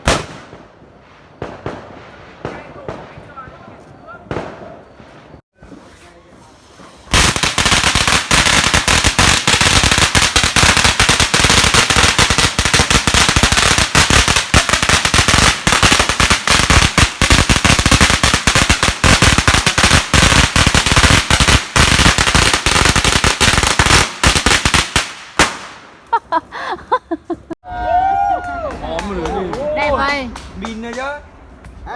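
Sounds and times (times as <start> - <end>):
firecrackers crackling: 0.0 - 26.2, 28.8 - 31.8.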